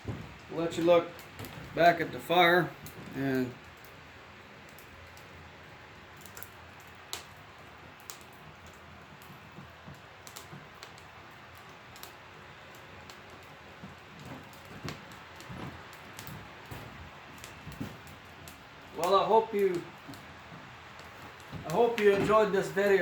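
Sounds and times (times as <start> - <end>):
steady low hiss: 0.0 - 23.0
wood fire crackling and popping: 0.0 - 23.0.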